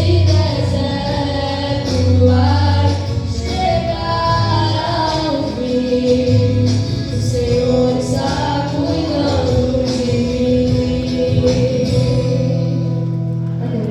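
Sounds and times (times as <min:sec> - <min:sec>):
gospel song with voices: 0:00.0 - 0:13.9.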